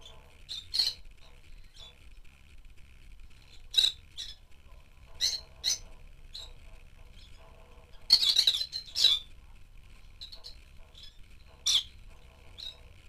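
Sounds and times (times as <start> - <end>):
lovebirds chirping: 0.0 - 2.2, 3.3 - 13.0.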